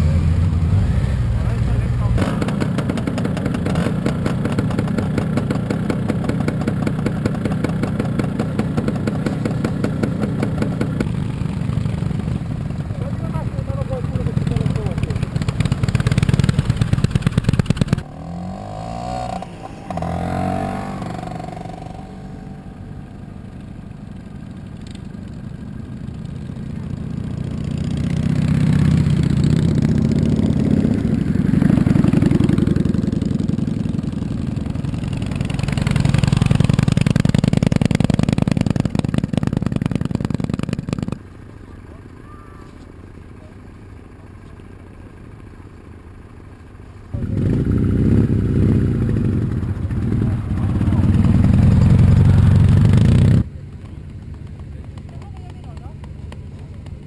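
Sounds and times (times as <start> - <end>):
motorcycle engine running: 0.0 - 57.0
motorcycles riding past: 0.0 - 57.0.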